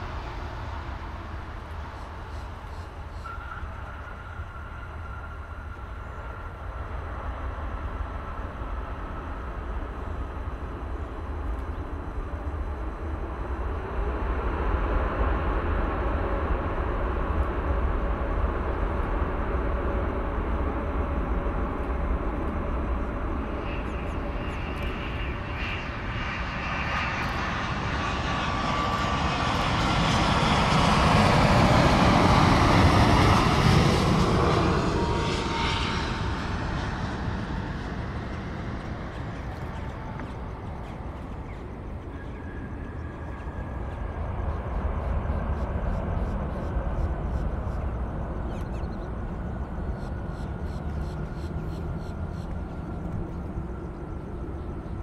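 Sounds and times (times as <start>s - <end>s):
high jet engine whine: 0.0s - 55.0s
jet engines rumbling: 0.0s - 55.0s.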